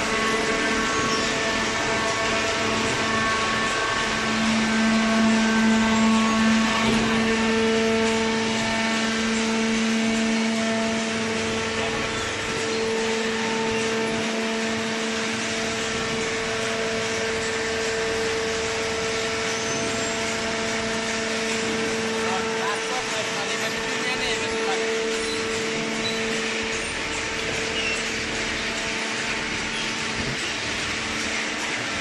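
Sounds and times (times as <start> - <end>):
motor and pump humming: 0.0 - 32.0.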